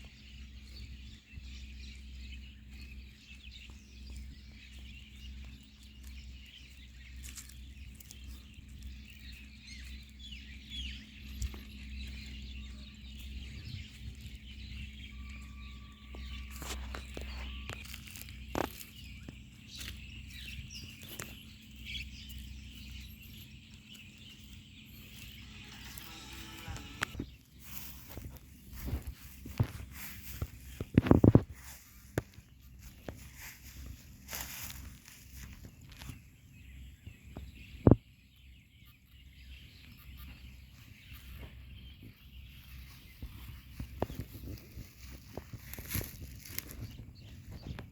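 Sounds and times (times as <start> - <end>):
birds chirping: 0.0 - 47.9
low rumbling background: 0.0 - 47.9.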